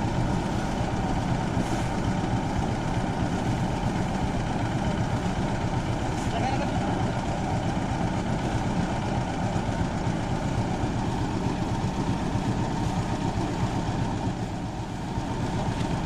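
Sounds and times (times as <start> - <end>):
threshing machine engine drone: 0.0 - 16.0.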